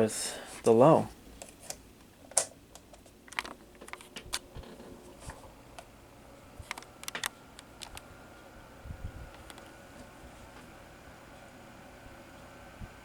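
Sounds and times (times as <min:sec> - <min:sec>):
fan motor hum: 0:00.0 - 0:13.0.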